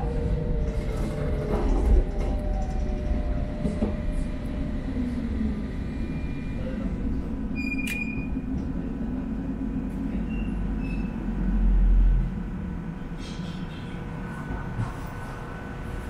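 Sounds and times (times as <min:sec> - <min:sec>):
tram rumbling: 0:00.0 - 0:16.0.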